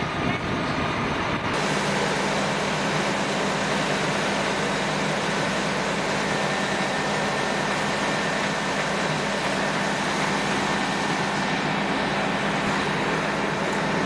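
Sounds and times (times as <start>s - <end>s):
motor running steadily: 0.0s - 14.0s.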